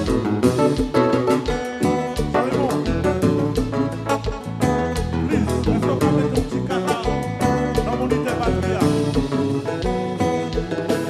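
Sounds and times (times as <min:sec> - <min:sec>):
bass: 0:00.0 - 0:11.0
electric guitar: 0:00.0 - 0:11.0
keyboards: 0:00.0 - 0:11.0
live band playing: 0:00.0 - 0:11.0
steady drum beat: 0:00.0 - 0:11.0.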